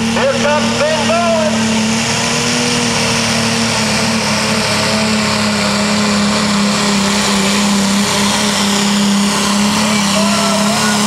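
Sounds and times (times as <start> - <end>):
loud exhaust roar: 0.0 - 11.0
tractor engine at high pitch: 0.0 - 11.0.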